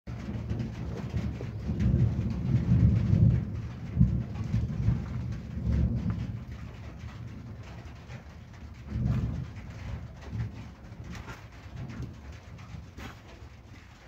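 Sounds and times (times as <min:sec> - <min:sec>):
rolling thunder: 0:00.1 - 0:14.0.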